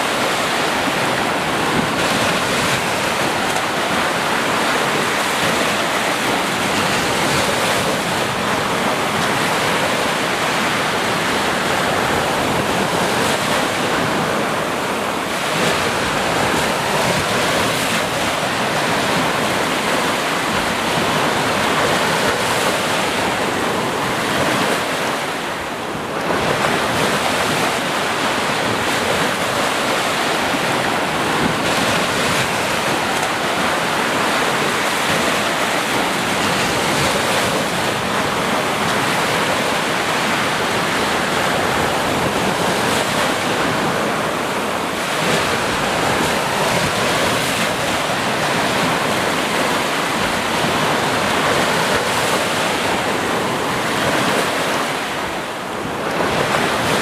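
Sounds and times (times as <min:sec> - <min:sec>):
waves washing onto shore: 0:00.0 - 0:57.0.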